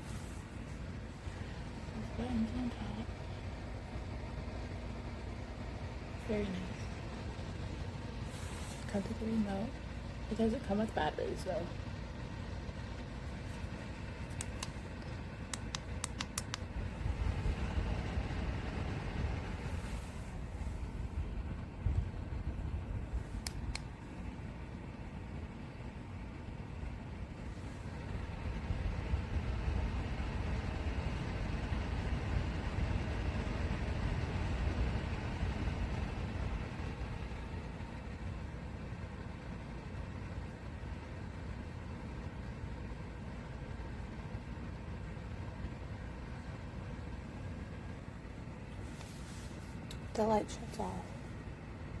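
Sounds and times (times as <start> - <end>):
heater fan blowing: 0.0 - 52.0.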